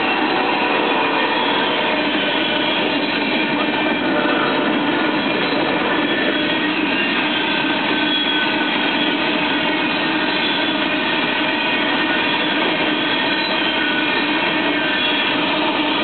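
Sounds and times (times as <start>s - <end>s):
train wheels on rail: 0.0s - 16.0s.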